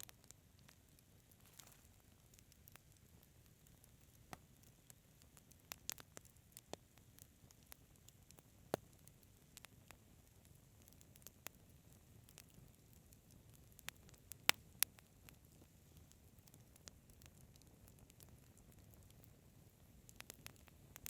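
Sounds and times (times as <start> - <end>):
faint low hiss: 0.0 - 21.0
wood fire crackling: 0.0 - 21.0.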